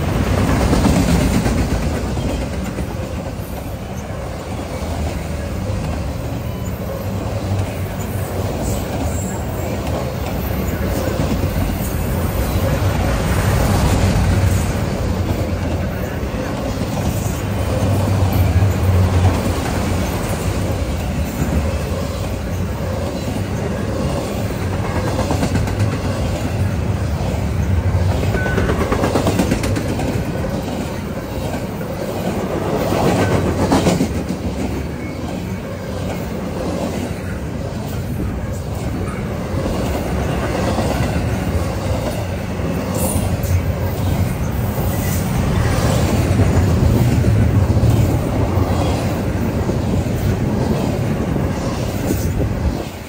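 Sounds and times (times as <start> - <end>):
freight train rumbling: 0.0 - 53.0
wheels clicking over rail joints: 4.9 - 52.9.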